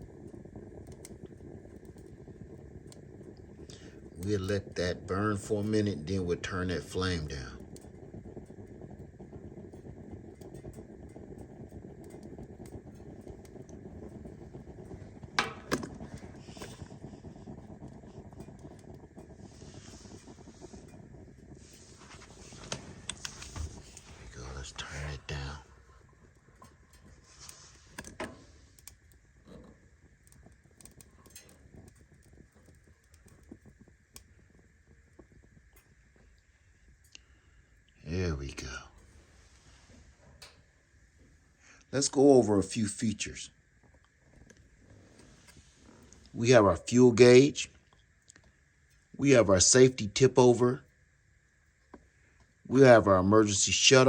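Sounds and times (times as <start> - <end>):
kerosene heater rumbling: 0.0 - 54.0.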